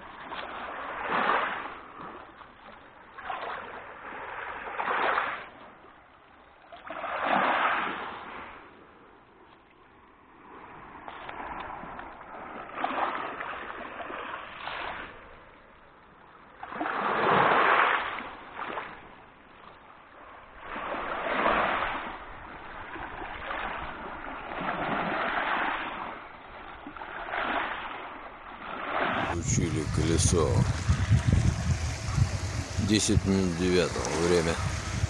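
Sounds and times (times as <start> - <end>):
sea waves breaking on shore: 0.0 - 35.0.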